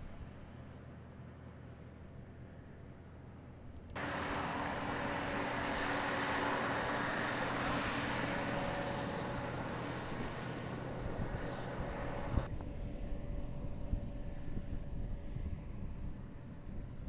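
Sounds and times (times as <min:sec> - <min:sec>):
harvest machinery droning: 0:00.0 - 0:17.0.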